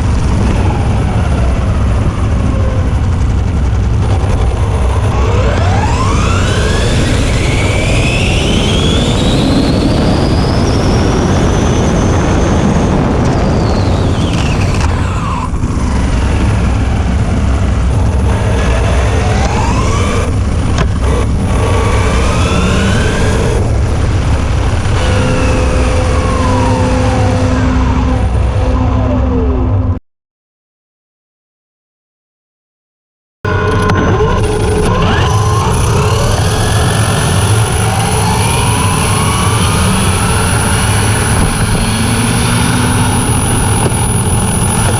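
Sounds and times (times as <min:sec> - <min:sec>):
electric motor whining: 0:00.0 - 0:29.6, 0:33.5 - 0:44.9
wind on microphone: 0:00.0 - 0:30.0, 0:33.7 - 0:44.9.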